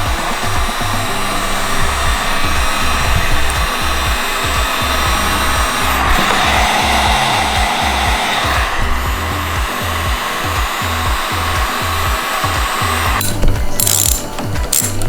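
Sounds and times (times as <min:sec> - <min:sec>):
heat gun blowing: 0:00.0 - 0:15.0
sharp clicks: 0:00.0 - 0:15.0.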